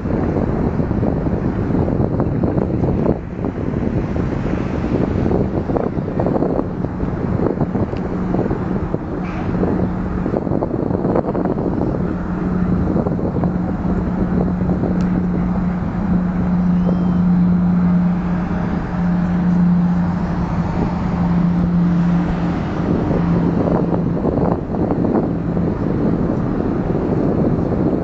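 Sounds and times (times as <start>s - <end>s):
steady engine hum: 0.0s - 28.0s
wind rumbling on microphone: 0.0s - 28.0s.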